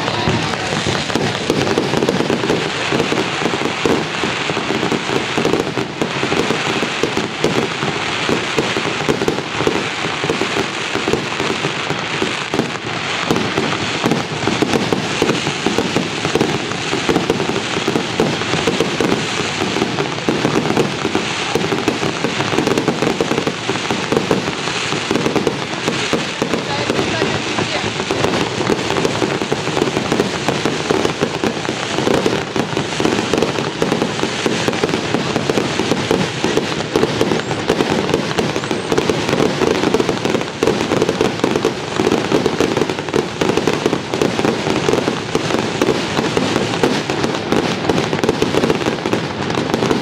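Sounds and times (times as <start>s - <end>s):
fireworks banging and crackling: 0.0s - 50.0s.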